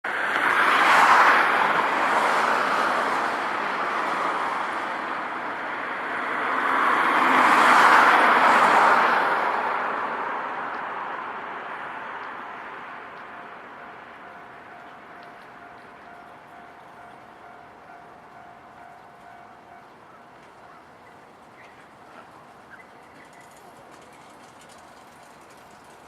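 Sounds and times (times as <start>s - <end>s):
vehicles passing close by: 0.1s - 26.0s.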